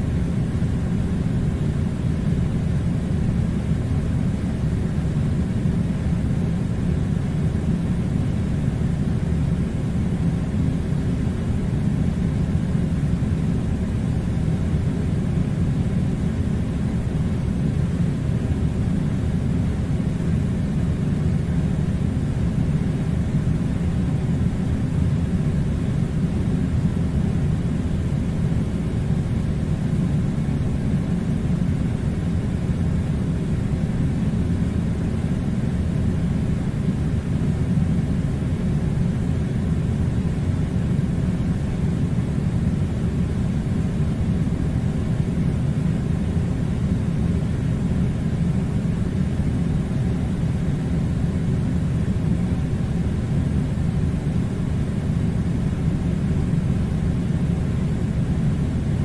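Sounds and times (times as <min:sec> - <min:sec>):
air conditioner hum: 0:00.0 - 0:59.0.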